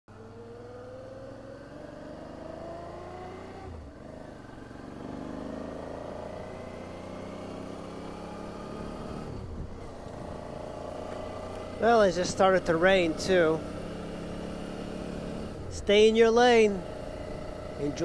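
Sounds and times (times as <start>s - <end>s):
motorcycle engine accelerating: 0.1s - 18.0s.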